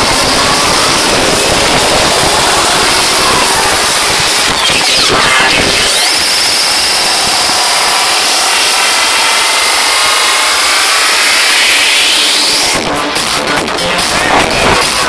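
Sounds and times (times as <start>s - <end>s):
electronic dance music: 0.0s - 15.0s
rising noise sweep: 0.0s - 15.0s.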